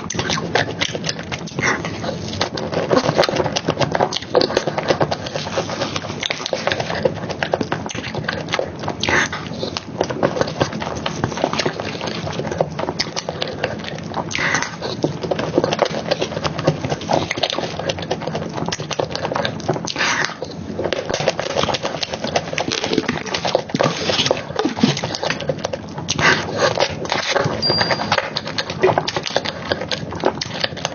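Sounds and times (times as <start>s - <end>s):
wet chewing and lip smacking: 0.0s - 30.9s.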